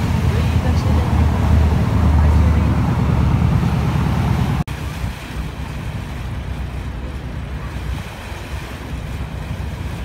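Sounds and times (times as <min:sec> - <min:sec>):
boat engine: 0:00.0 - 0:10.0.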